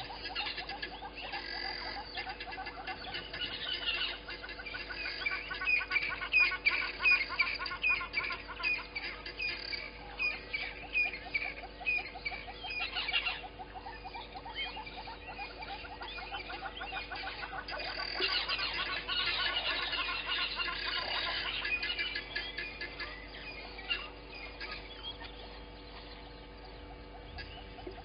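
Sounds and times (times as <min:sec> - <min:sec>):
small animals chirping: 0:00.0 - 0:28.0.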